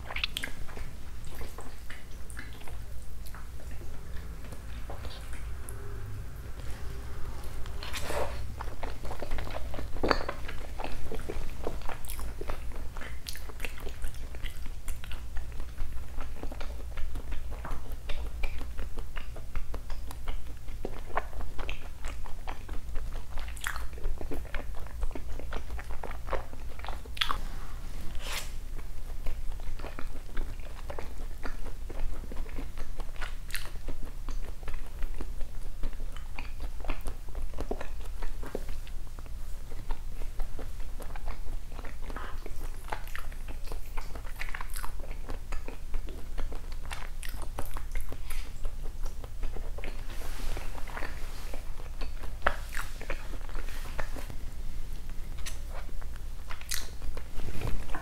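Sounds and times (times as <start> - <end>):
person chewing with mouth clicks: 0.0 - 58.0
steady low hum: 0.0 - 58.0.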